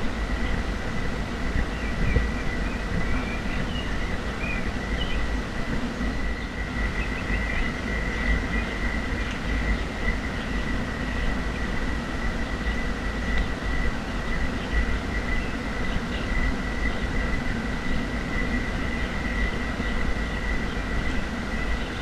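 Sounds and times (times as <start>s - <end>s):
high-pitched whine: 0.0s - 22.0s
low rumble and hiss: 0.0s - 22.0s.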